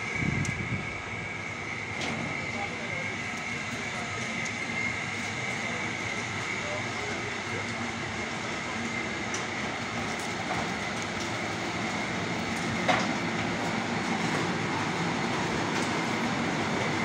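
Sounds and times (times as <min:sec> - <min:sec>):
oil expeller machines running: 0:00.0 - 0:17.0.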